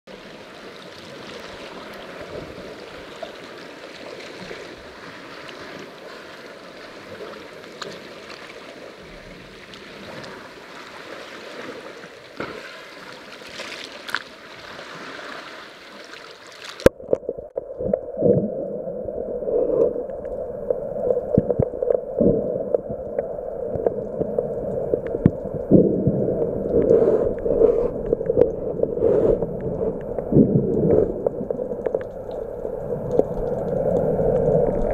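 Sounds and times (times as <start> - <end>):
sea water lapping and splashing: 0.1 - 34.9.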